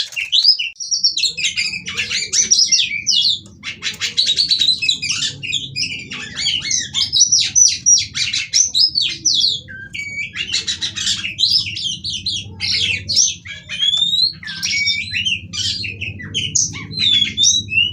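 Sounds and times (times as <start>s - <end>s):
bird singing whistles and rattles: 0.0s - 17.9s.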